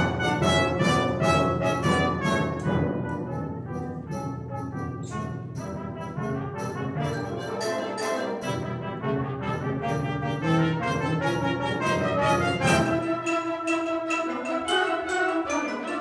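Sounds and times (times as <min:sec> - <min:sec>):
brass solo notes: 0:00.0 - 0:13.3.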